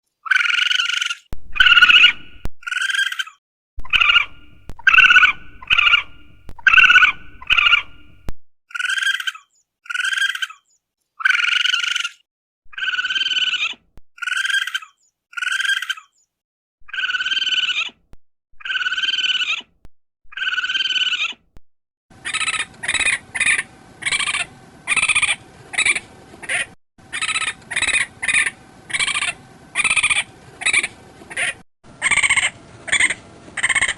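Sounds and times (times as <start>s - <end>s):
raccoon calling: 0.3s - 10.6s, 11.2s - 16.1s, 16.8s - 17.9s, 18.6s - 19.6s, 20.3s - 21.4s, 22.2s - 33.9s.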